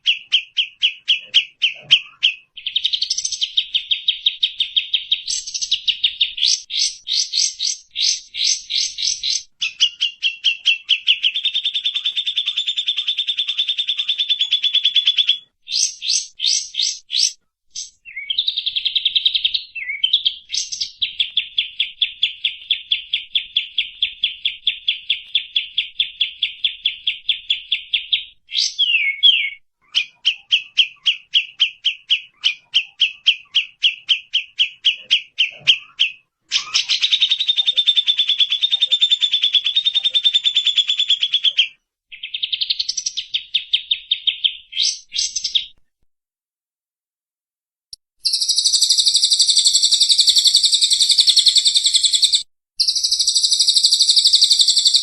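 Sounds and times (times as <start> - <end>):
shrill bird chatter: 0.0 - 45.8, 48.0 - 55.0
songbird calls: 0.0 - 45.8, 47.9 - 55.0
rattling bird trill: 0.1 - 45.7, 48.2 - 55.0.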